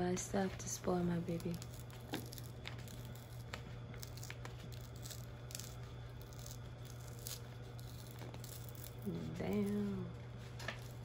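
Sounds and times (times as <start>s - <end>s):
wrapping paper rustling: 0.4s - 11.0s.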